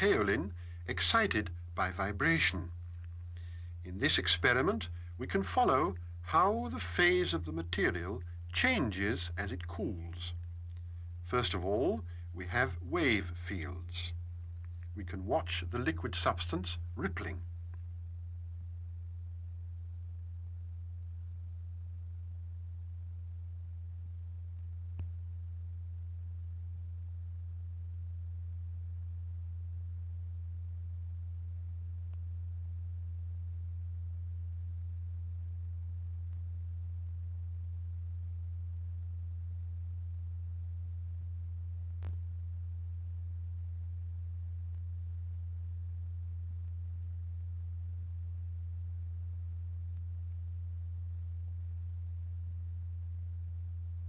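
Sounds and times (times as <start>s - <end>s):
low pure sine tone: 0.0s - 54.0s.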